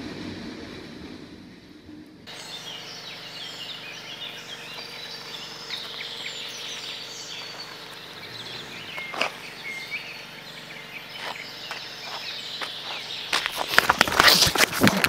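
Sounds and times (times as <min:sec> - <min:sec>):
birds chirping and whistling: 0:02.3 - 0:15.0.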